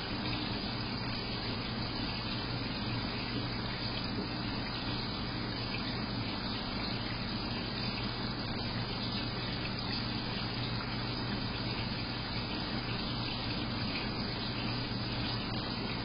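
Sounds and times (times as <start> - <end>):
low pump hum: 0.0 - 16.0.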